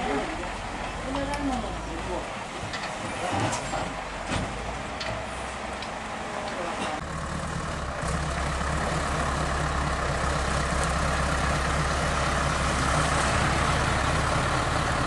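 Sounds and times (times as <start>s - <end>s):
truck diesel engine humming: 0.0s - 15.0s.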